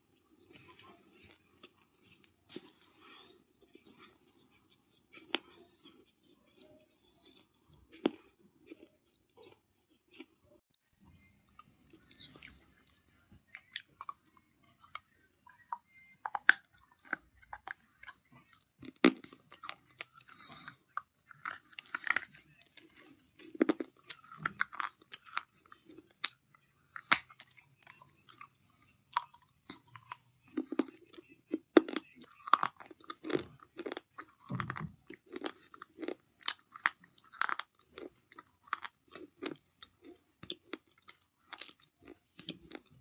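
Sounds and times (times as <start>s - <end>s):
dry clay being chewed: 0.0s - 43.0s.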